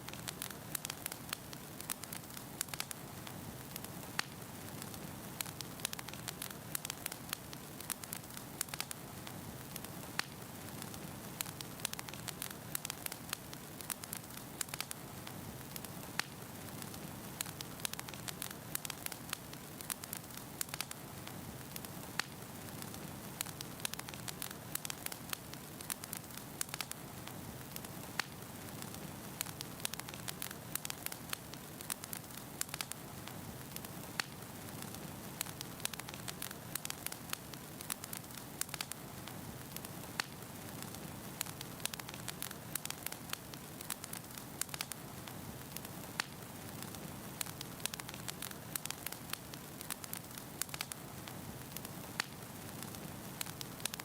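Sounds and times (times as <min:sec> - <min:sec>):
steady fire hiss: 0:00.0 - 0:54.0
wood fire crackling and popping: 0:00.0 - 0:54.0.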